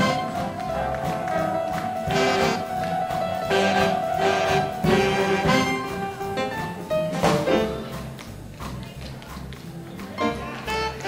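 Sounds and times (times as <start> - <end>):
big band swing jazz: 0.0 - 11.0.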